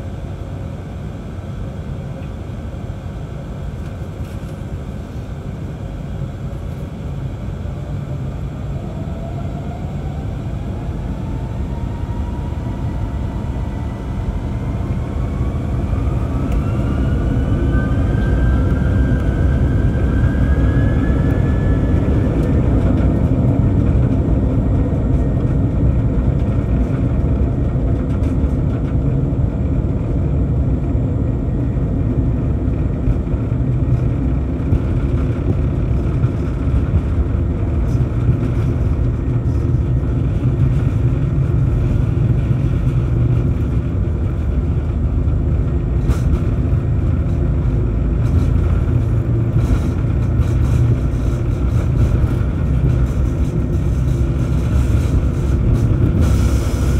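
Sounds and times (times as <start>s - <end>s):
jet engines rumbling in cabin: 0.0s - 56.9s.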